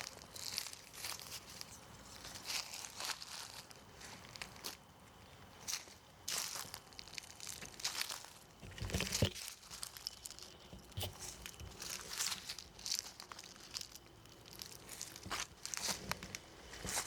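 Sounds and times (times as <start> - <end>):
footsteps crunching on path: 0.0 - 4.9, 5.6 - 17.0.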